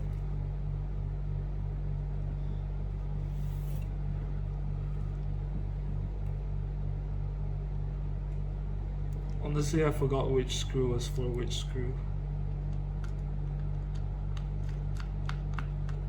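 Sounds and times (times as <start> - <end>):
low pulsing background hum: 0.0 - 16.0.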